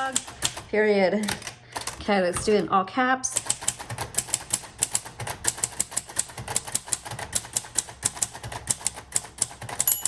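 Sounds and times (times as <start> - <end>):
manual typewriter typing: 0.0 - 2.6, 3.3 - 10.0.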